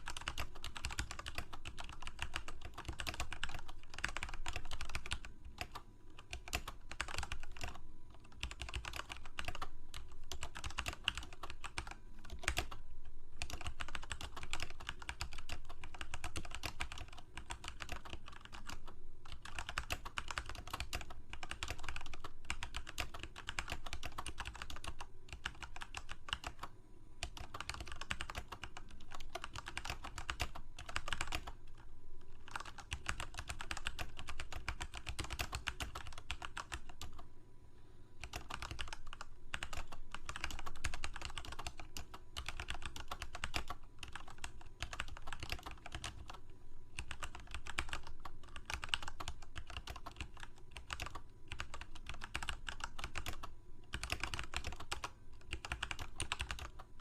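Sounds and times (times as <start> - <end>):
typing on computer keyboard: 0.0 - 12.8, 13.4 - 37.2, 38.2 - 46.4, 47.0 - 57.0.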